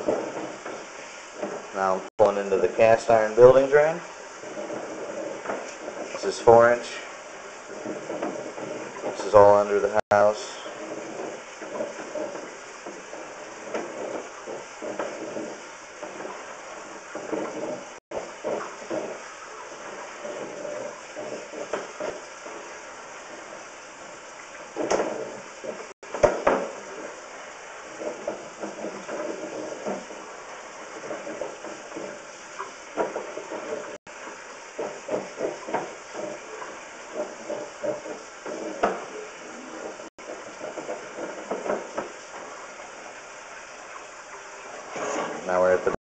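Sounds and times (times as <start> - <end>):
cable scraping and knocking in pipe: 0.0 - 46.0.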